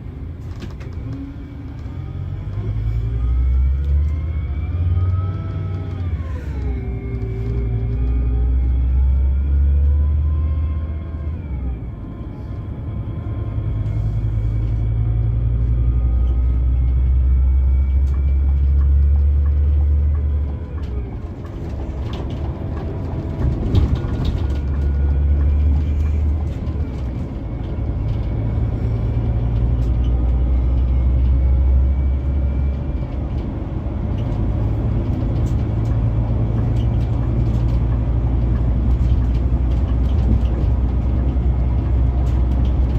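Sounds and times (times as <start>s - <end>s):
diesel engine rumbling: 0.0s - 42.9s.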